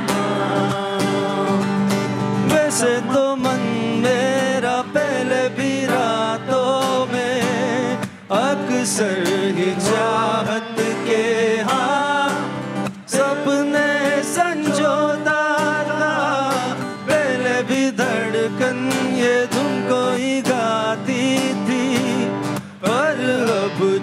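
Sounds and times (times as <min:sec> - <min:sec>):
man singing: 0:00.0 - 0:24.0
strummed acoustic guitar: 0:00.0 - 0:24.0.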